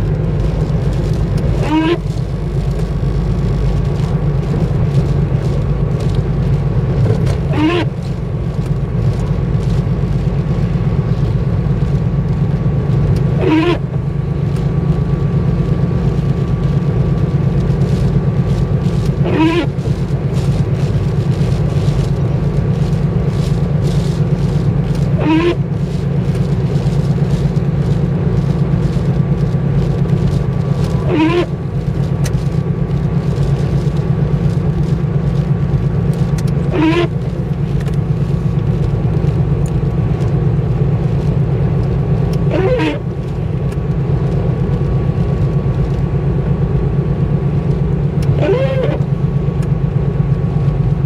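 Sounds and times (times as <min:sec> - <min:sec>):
car engine and tyres drone: 0:00.0 - 0:51.0
windscreen wiper squeaking: 0:00.0 - 0:51.0.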